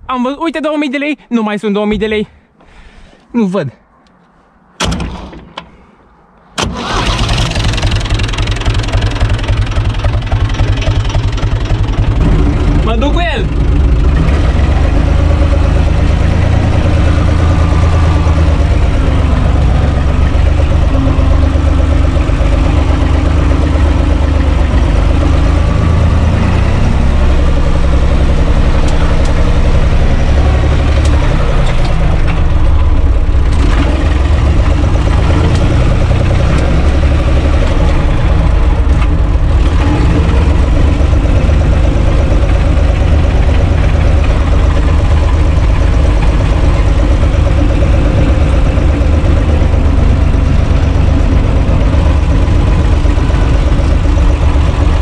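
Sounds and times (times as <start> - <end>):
tractor diesel engine running: 6.6 - 55.0.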